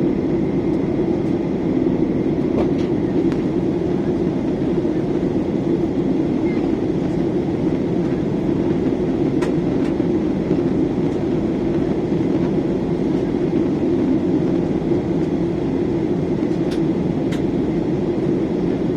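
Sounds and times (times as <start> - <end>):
airliner cabin drone: 0.0 - 18.9.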